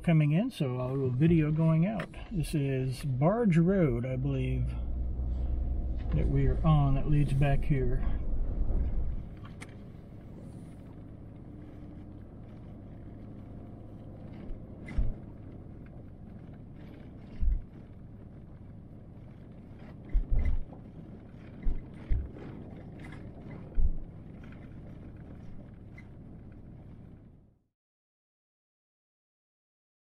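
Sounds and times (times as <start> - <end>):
car engine and tyres humming: 0.0 - 27.6.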